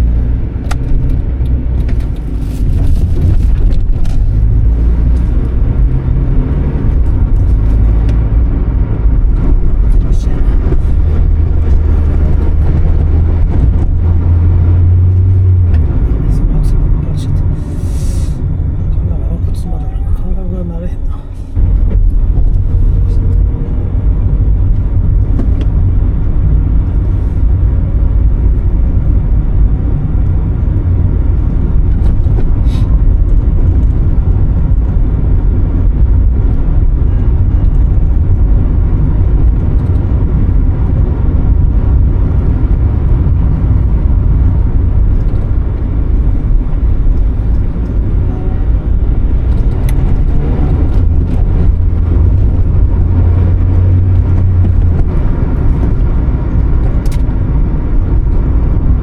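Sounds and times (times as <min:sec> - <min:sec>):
car engine rumbling: 0:00.0 - 0:59.0.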